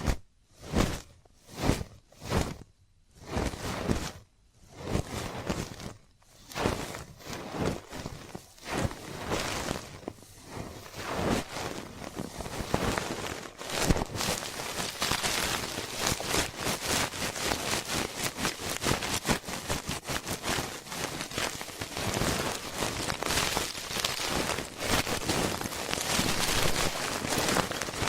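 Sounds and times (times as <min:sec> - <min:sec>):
ear cleaning scratching and crackling: 0:04.8 - 0:28.0.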